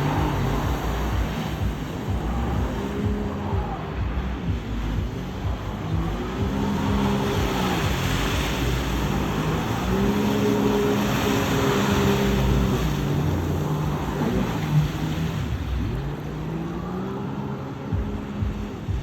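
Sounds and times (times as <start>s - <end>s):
motor engine running: 0.0s - 19.0s
steady rushing noise: 0.0s - 19.0s.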